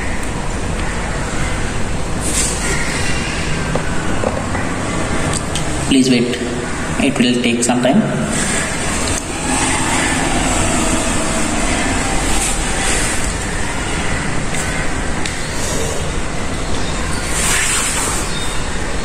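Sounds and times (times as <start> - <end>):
loud rumbling noise: 0.0 - 19.0.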